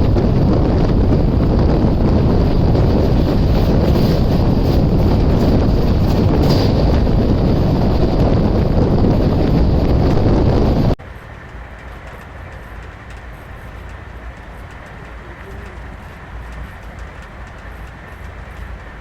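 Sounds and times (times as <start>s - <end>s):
rush of wind and rolling noise: 0.0s - 19.0s
train rumble: 0.0s - 19.0s.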